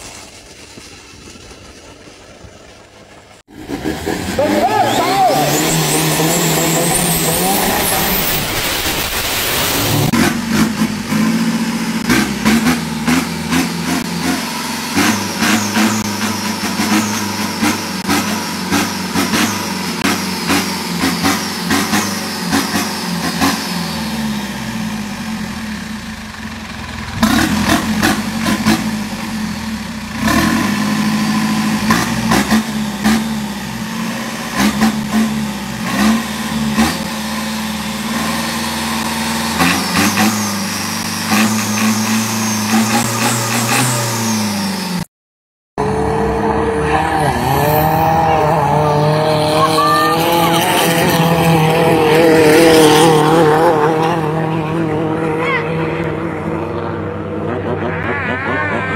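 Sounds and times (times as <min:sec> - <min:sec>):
diesel boat engine revving: 0:03.4 - 0:45.1, 0:45.8 - 0:58.9.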